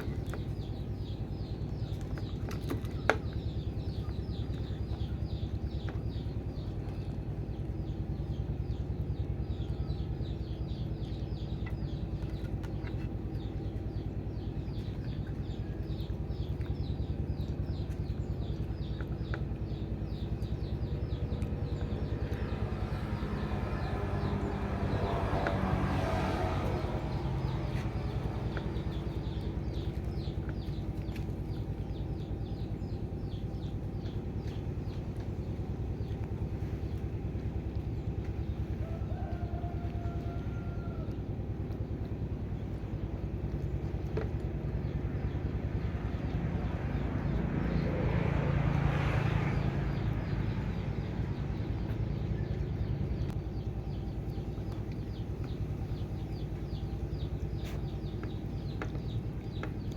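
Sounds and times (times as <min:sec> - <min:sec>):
pulsing low engine rumble: 0:00.0 - 0:59.9.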